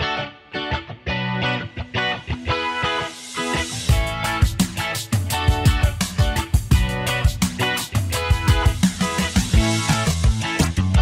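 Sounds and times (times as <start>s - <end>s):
guitar playing rhythmic chords: 0.0s - 11.0s.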